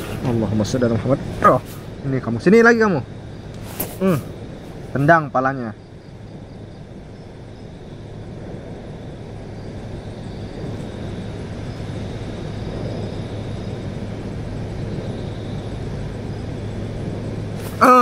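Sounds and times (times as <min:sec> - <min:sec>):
low rumbling noise: 0:00.0 - 0:18.0.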